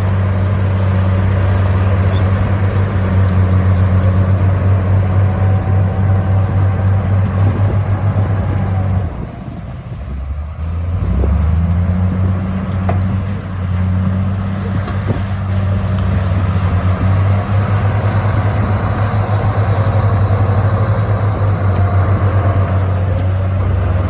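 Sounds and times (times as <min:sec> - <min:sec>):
bulldozer diesel engine: 0:00.0 - 0:24.0.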